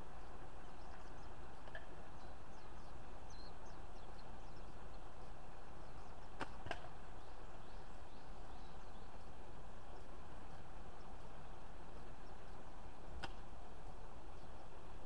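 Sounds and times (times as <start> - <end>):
faint bird chirps: 0.0 - 13.1, 13.8 - 15.0
outdoor background hiss: 0.0 - 15.0.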